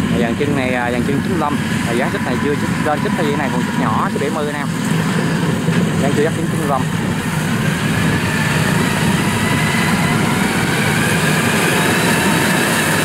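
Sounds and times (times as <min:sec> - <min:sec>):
faint rising whine: 0:00.0 - 0:13.0
small vehicle engine running: 0:00.0 - 0:13.0.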